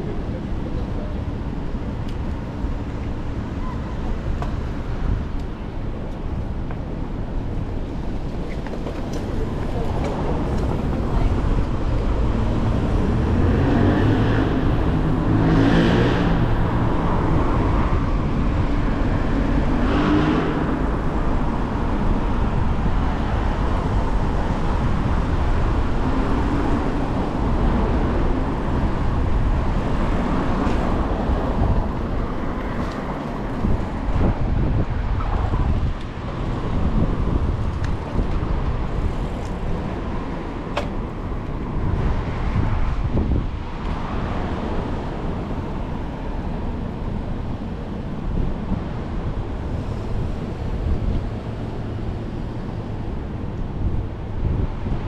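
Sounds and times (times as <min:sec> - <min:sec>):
road noise: 0:00.0 - 0:55.0
motor vehicles passing: 0:04.2 - 0:55.0.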